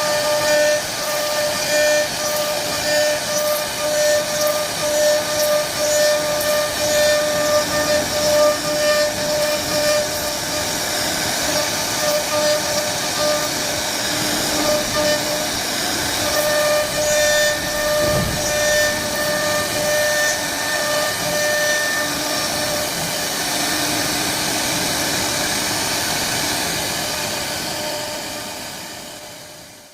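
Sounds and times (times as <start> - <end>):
router cutting wood hiss: 0.0 - 29.9
router spindle whine: 0.0 - 29.9.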